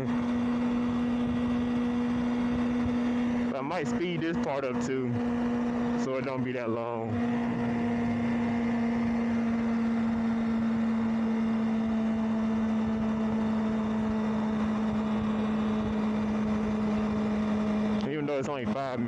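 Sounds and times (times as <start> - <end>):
motorcycle engine droning: 0.0 - 19.0
wind and road noise: 0.0 - 19.0.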